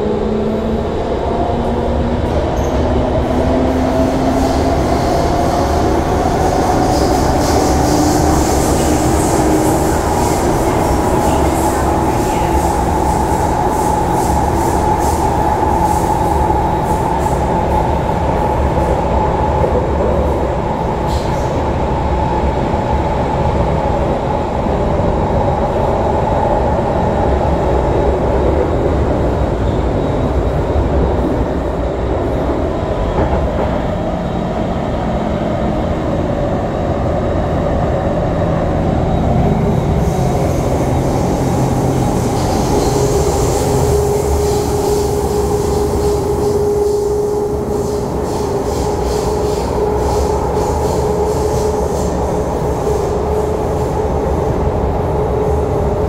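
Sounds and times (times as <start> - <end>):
train wheels rumbling on rail: 0.0 - 56.0
train whine: 0.0 - 56.0.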